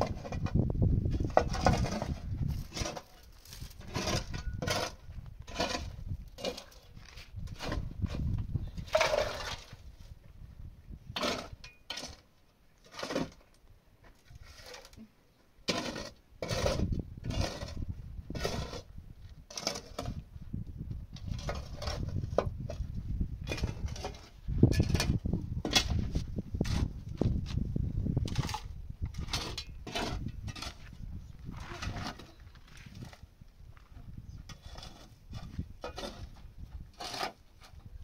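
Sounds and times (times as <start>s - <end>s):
shovel scraping stony earth: 0.0s - 10.2s, 11.1s - 20.3s, 21.1s - 38.0s.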